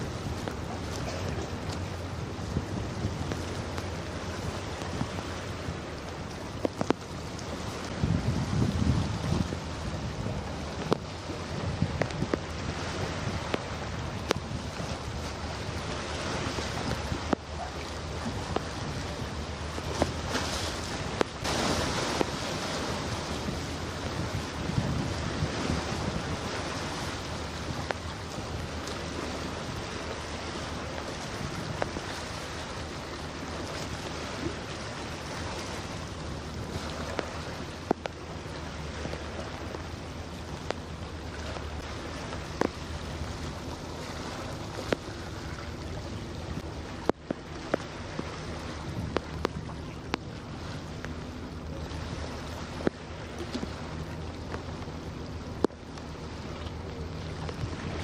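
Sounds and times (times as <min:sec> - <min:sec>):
low boat engine hum: 0:00.0 - 0:58.0
water washing: 0:00.0 - 0:58.0
wind on microphone: 0:00.0 - 0:58.0.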